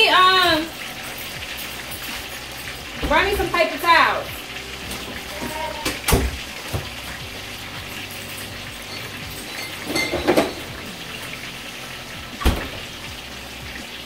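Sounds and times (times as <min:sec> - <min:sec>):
oil sizzling in deep fryer: 0:00.0 - 0:14.0.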